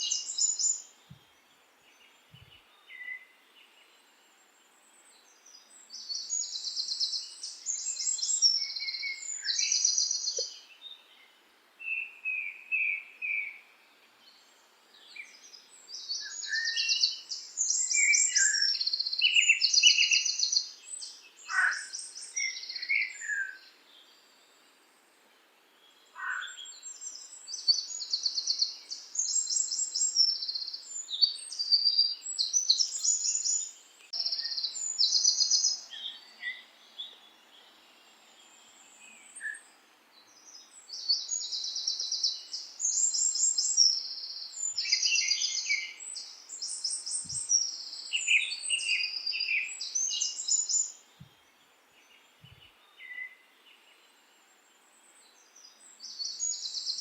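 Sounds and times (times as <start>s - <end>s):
bird chirps: 0.0s - 1.0s, 5.3s - 13.7s, 14.3s - 24.2s, 26.0s - 54.2s, 55.0s - 57.0s
songbirds trilling: 5.2s - 11.3s, 14.3s - 24.2s, 25.8s - 54.2s, 55.0s - 57.0s.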